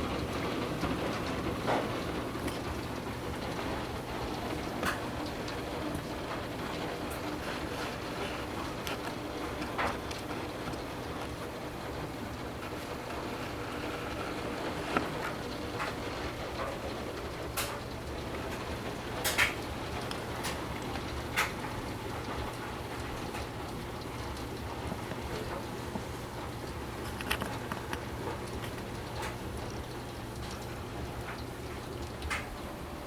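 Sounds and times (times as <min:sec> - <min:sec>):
torrential rain: 0:00.0 - 0:33.0
water spilling from gutters: 0:00.0 - 0:33.0.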